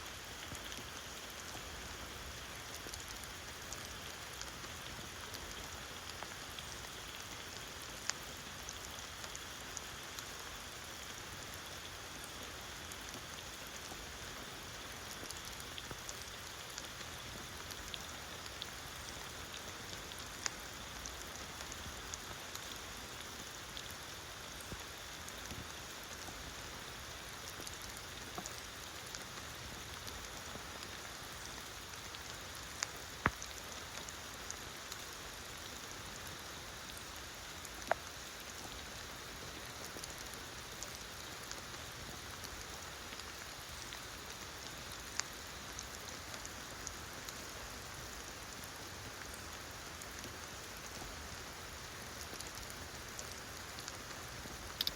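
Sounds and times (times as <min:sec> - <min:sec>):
rain hissing on forest floor: 0:00.0 - 0:54.9.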